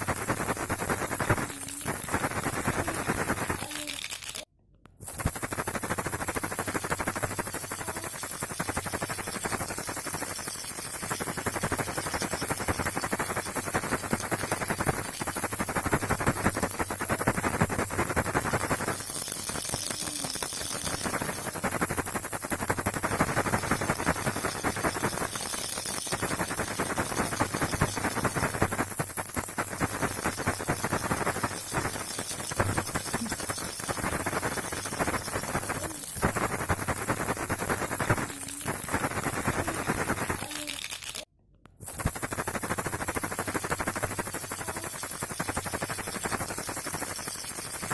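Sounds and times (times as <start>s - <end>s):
baby rattle shaking: 0.0s - 47.9s
steady high hiss: 0.0s - 47.9s.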